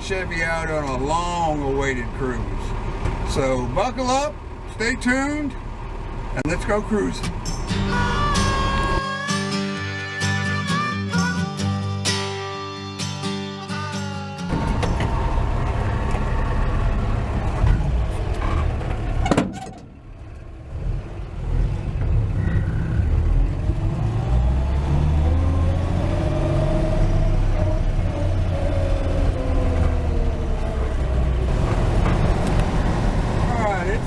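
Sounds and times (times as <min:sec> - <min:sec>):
truck engine driving: 0:00.0 - 0:12.2, 0:13.2 - 0:34.0.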